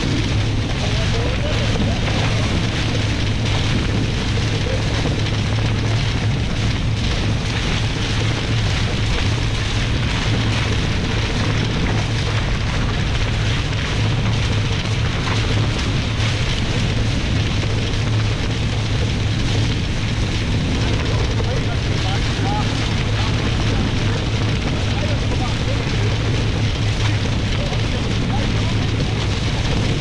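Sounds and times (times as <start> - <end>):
rush of water: 0.0 - 30.0
wind on microphone: 0.0 - 30.0.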